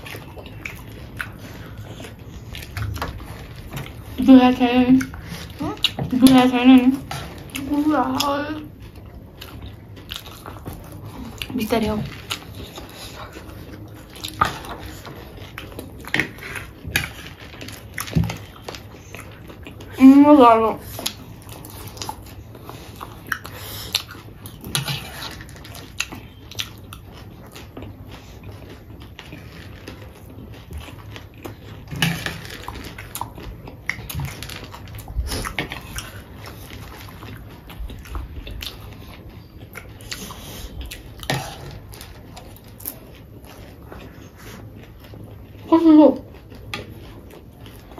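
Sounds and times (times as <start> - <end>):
people chewing crunchy snack: 0.0 - 47.9.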